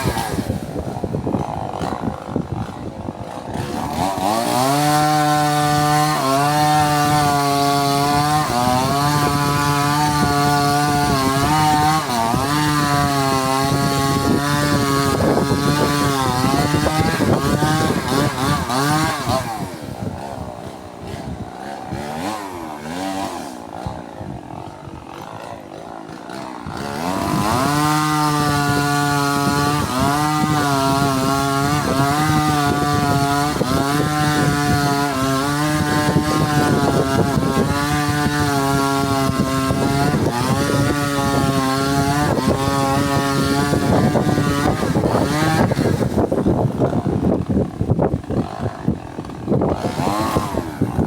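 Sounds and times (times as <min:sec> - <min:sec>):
chainsaw cutting wood: 0:00.0 - 0:51.0
chainsaw idling: 0:00.0 - 0:51.0.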